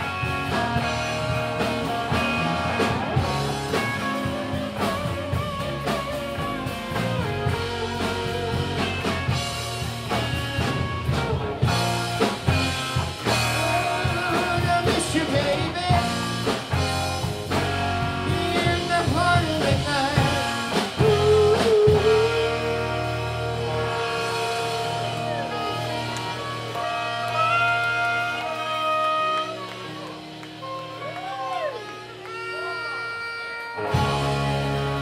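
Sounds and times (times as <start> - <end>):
held guitar lead note: 0.0 - 35.0
live rock band playing: 0.0 - 35.0.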